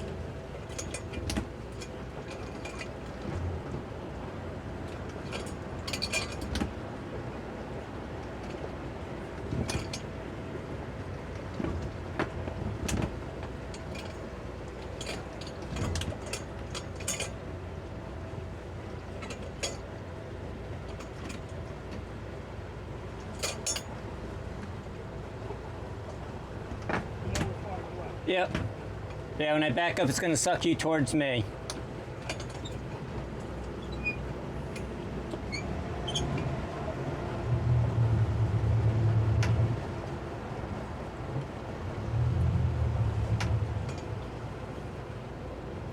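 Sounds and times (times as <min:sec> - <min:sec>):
outboard motors running: 0:00.0 - 0:45.9.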